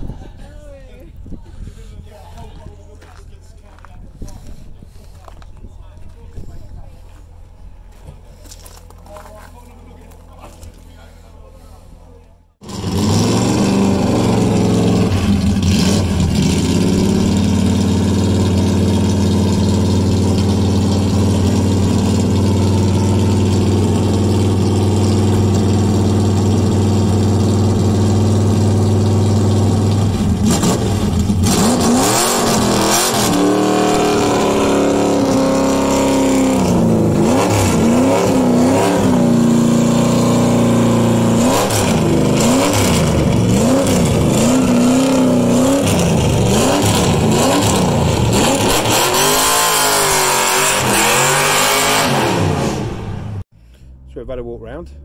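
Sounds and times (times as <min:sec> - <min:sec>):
car engine idling and revving: 0:02.2 - 0:55.0.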